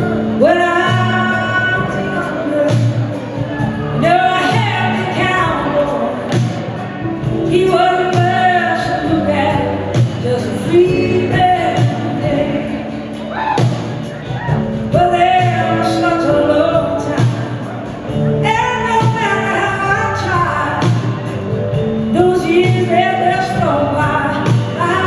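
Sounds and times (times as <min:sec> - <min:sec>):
live rock band playing: 0:00.0 - 0:25.0
woman singing lead: 0:00.0 - 0:25.0.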